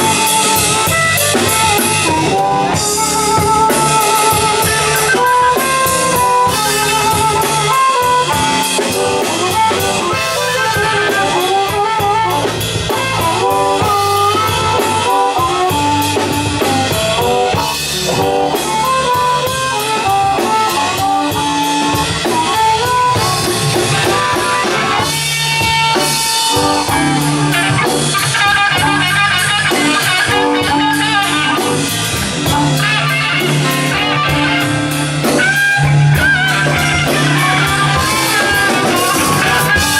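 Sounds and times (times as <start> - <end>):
bass guitar: 0.0 - 39.9
drum kit: 0.0 - 39.9
lead guitar bending notes: 0.0 - 39.9.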